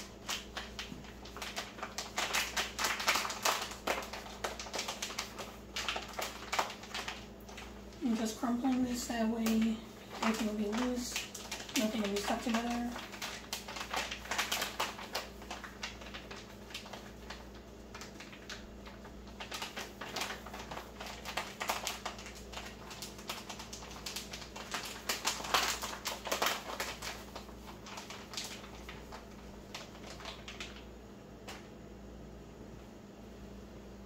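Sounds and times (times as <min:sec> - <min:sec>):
package crinkling: 0:00.0 - 0:31.6
faint low hum: 0:00.0 - 0:34.0.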